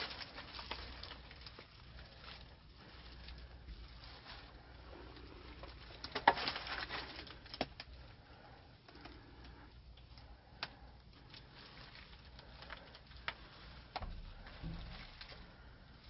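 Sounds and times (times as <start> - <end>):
rustling crunch of debris: 0.0 - 16.0.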